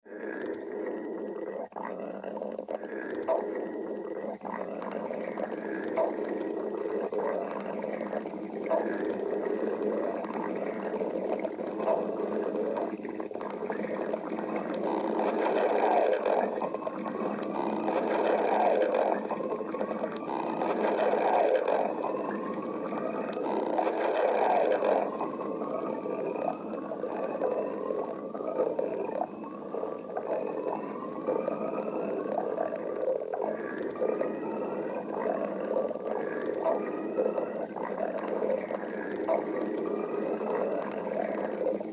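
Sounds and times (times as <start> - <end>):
stomach growling: 0.0 - 41.9.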